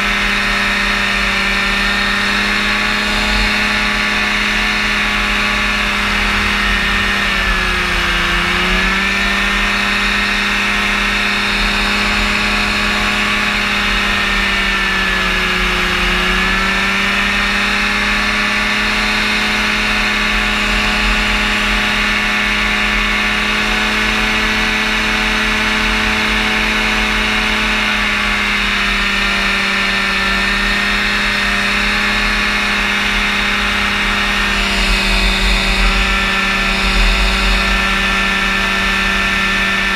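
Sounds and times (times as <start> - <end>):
propeller engine running: 0.0 - 39.9.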